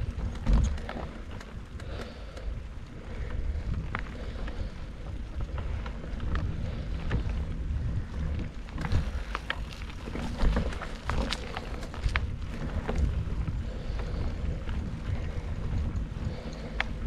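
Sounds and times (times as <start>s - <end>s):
tyres rumbling on dirt trail: 0.0s - 17.0s
wind rushing over microphone: 0.0s - 17.0s.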